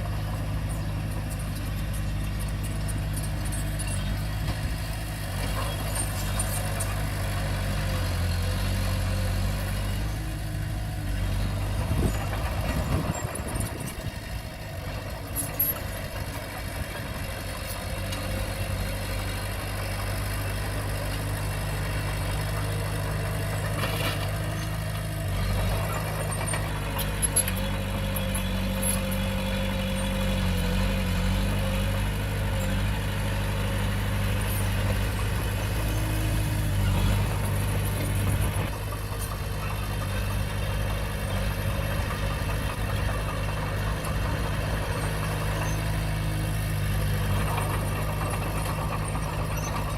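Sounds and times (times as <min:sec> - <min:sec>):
bulldozer diesel engine running: 0:00.0 - 0:49.9.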